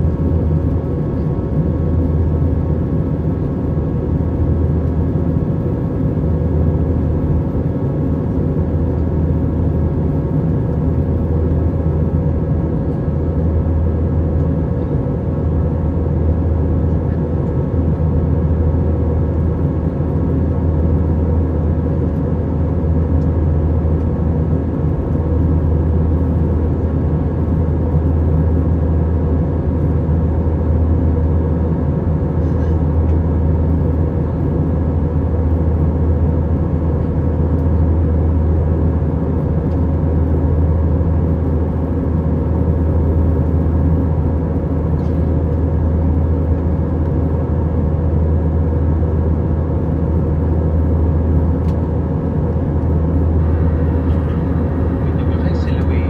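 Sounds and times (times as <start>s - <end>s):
airliner cabin rumble: 0.0s - 56.0s
steady hum tones: 0.0s - 56.0s.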